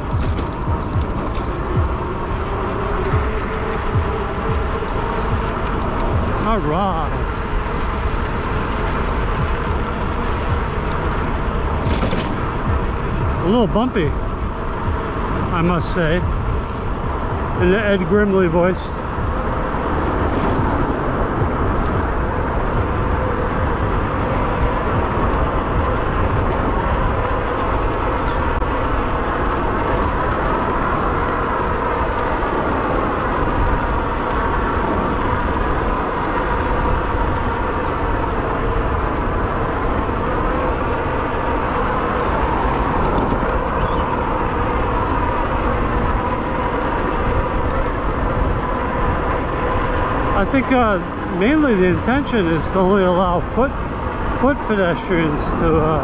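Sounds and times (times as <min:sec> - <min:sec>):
steady motor whine: 0:00.0 - 0:56.0
tyres rumbling on bumpy surface: 0:00.0 - 0:56.0
wind buffeting microphone: 0:00.0 - 0:56.0.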